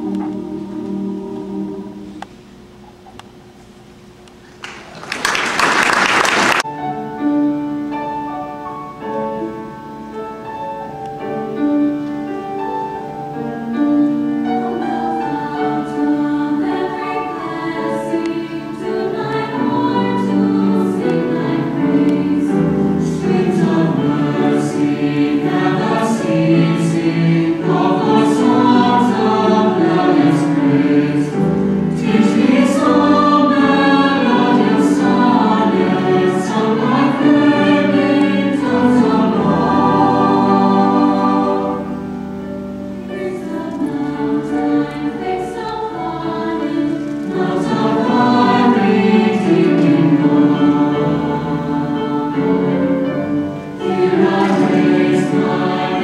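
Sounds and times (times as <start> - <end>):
choir singing in parts: 0.0 - 2.3, 10.4 - 56.0.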